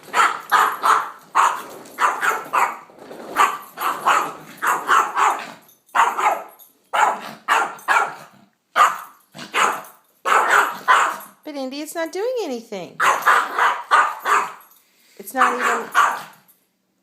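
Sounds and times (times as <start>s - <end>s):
dog barking: 0.1s - 11.4s, 13.0s - 14.6s, 15.3s - 16.4s.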